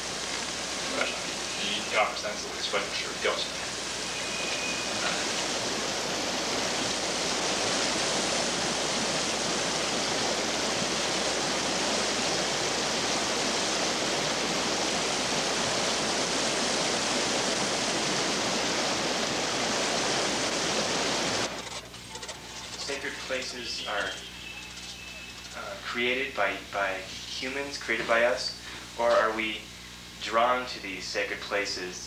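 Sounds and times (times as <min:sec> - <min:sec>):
water rushing: 0:00.0 - 0:29.5.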